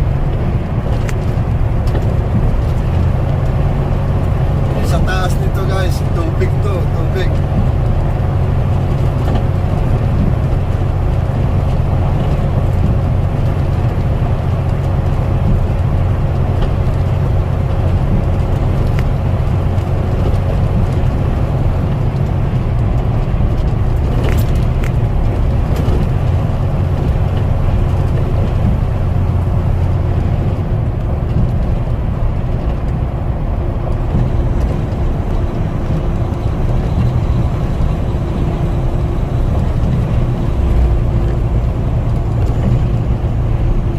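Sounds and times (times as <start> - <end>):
truck engine and road drone: 0.0 - 43.9.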